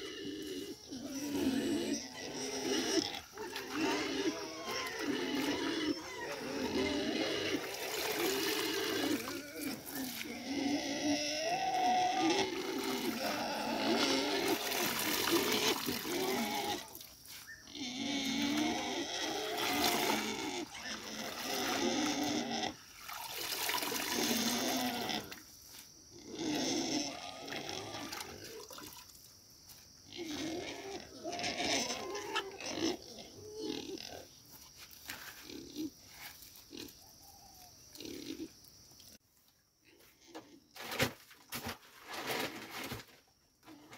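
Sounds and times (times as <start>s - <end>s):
pigs calling: 0.0s - 25.5s, 26.1s - 29.0s, 30.0s - 38.6s.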